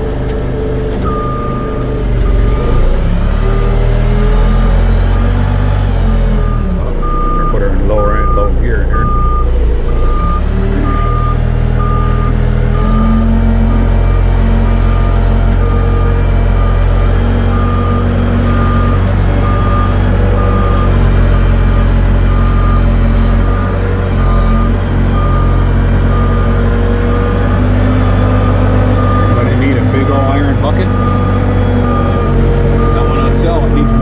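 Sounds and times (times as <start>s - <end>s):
diesel engine running: 0.0s - 34.0s
backup alarm beeping: 1.0s - 34.0s.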